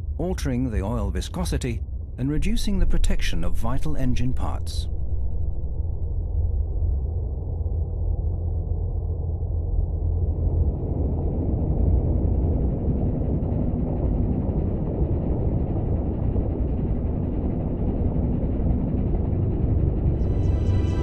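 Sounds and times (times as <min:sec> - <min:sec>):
engine low rumble: 0:00.0 - 0:21.0.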